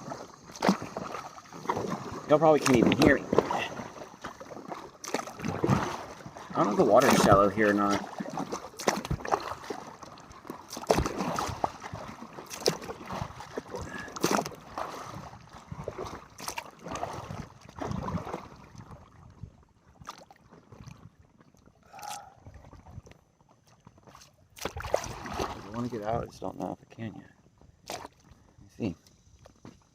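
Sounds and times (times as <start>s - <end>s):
kayak paddle splashing: 0.0s - 26.7s, 27.4s - 29.9s
water sloshing against hull: 0.0s - 29.9s.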